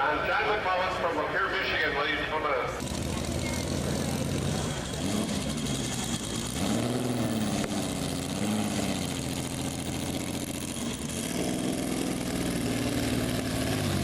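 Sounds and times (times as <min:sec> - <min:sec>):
car engine running at low revs: 0:02.8 - 0:14.0.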